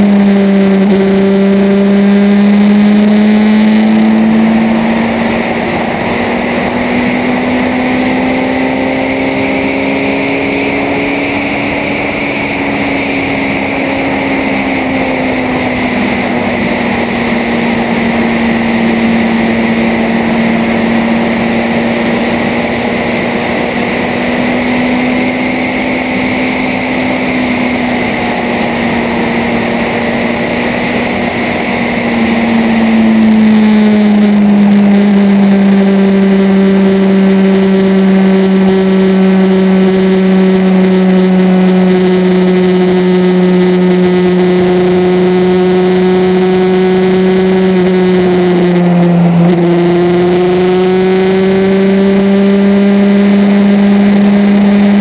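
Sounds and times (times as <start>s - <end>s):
motor engine droning: 0.0s - 55.0s.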